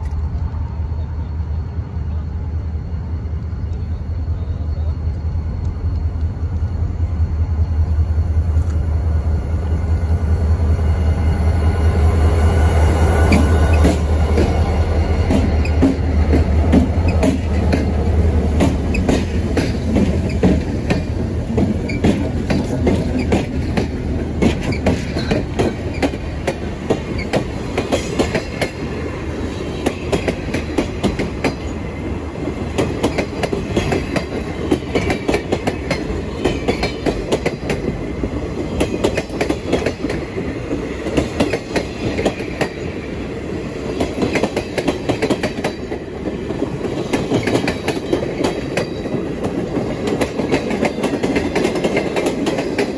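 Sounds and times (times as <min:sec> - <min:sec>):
locomotive engine hum: 0:00.0 - 0:45.2
train rumbling past: 0:00.0 - 0:52.9.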